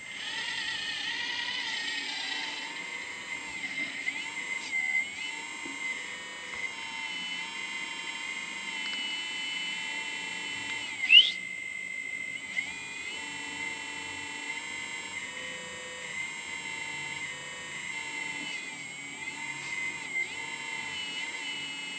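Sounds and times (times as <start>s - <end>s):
hydraulic pump whining: 0.0s - 21.9s.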